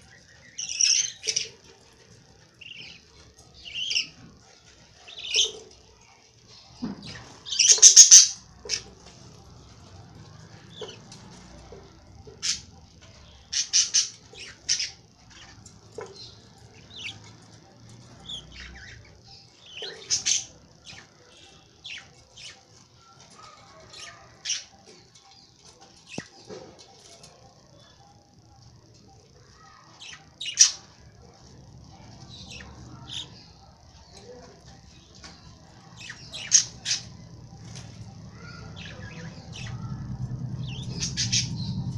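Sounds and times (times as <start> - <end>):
lovebirds squawking and chirping: 0.0 - 5.8, 6.8 - 27.2, 29.6 - 31.0, 31.9 - 41.9.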